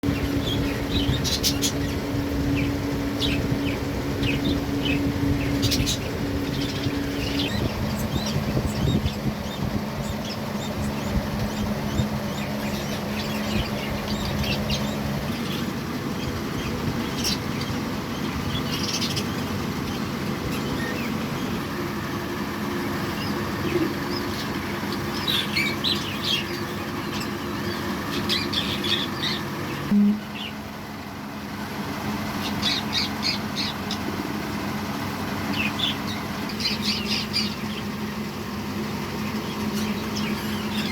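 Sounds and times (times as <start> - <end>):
budgerigars chirping and squawking: 0.0 - 30.6, 32.2 - 38.2, 39.1 - 40.9
steady low hum: 0.0 - 40.9.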